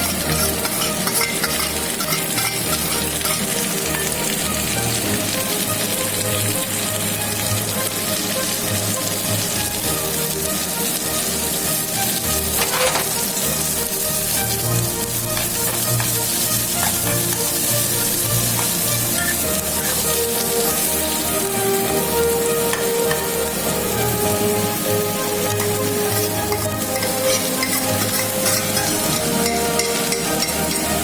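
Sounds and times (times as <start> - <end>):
food sizzling in a pan: 0.0 - 31.0
stirring in a pan: 0.0 - 31.0.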